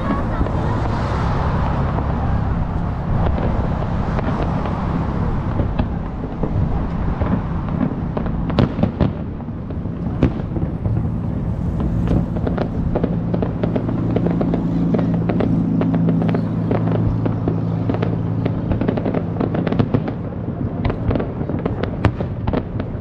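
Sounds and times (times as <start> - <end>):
fireworks exploding: 0.0 - 23.0.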